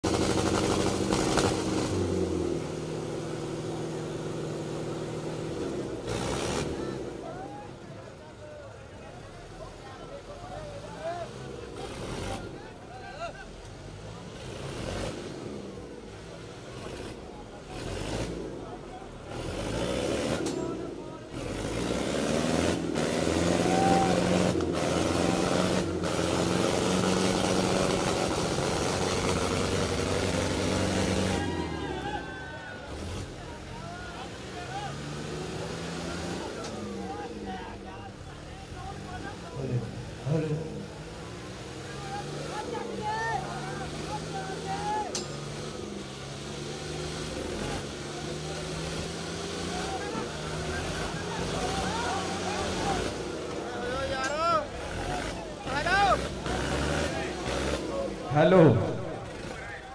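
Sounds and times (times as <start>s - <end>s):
tractor engines revving: 0.0s - 59.9s.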